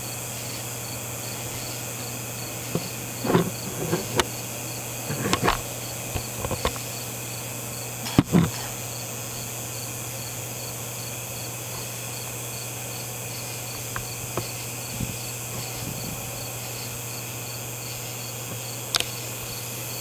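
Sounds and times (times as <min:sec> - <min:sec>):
insects chirping: 0:00.0 - 0:20.0
low hum and hiss: 0:00.0 - 0:20.0.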